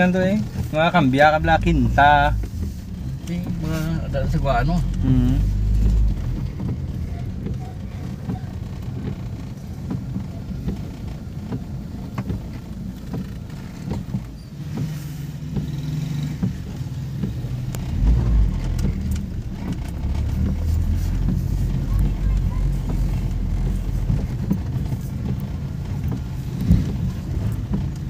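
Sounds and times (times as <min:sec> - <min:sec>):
engine and tyre rumble: 0:00.0 - 0:28.0
light ticks: 0:04.8 - 0:28.0.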